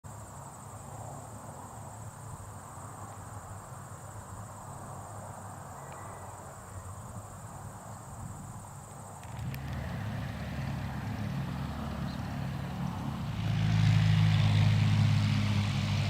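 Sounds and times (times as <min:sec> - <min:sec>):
insects trilling: 0:00.1 - 0:13.0.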